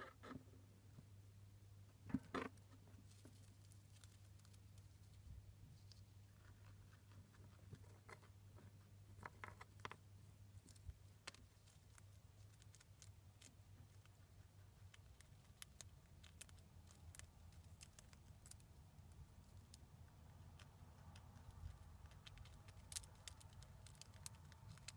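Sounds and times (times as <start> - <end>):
chinchilla gnawing a peanut: 2.2 - 24.9.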